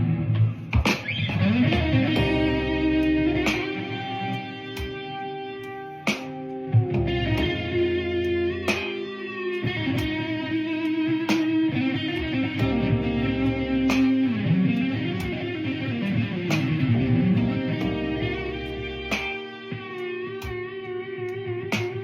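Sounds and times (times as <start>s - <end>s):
blues guitar: 0.0s - 22.0s.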